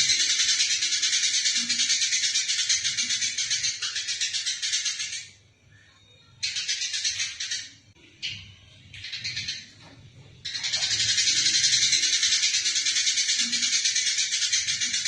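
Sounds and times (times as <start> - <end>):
sparrows chattering: 0.0 - 5.4, 6.4 - 15.0.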